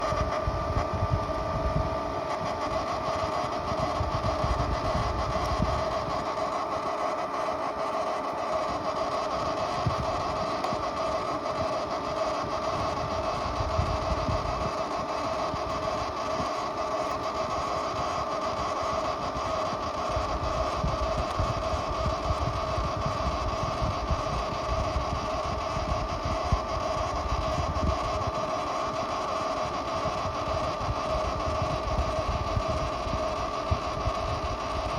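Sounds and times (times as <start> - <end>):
ice maker humming drone: 0.0 - 34.9.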